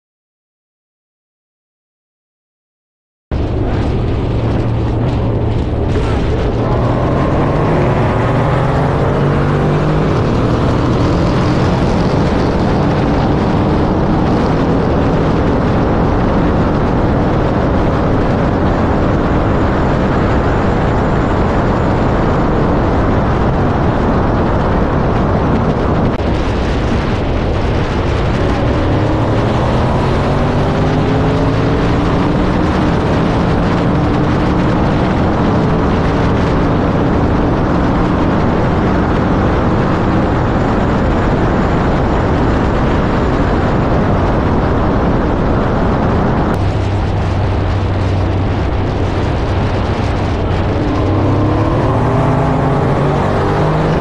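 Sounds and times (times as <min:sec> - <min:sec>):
car engine at full throttle: 0:03.3 - 0:54.0
wind rush: 0:03.3 - 0:54.0.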